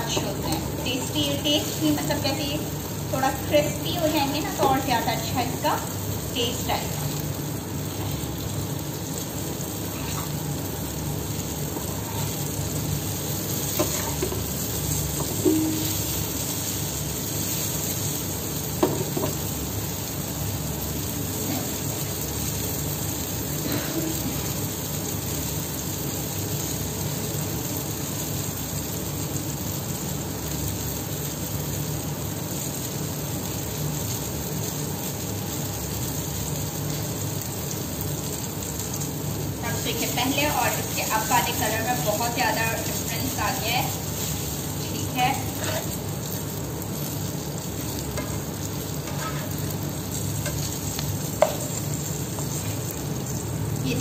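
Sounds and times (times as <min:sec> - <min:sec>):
eggplant sizzling in oil: 0:00.0 - 0:54.0.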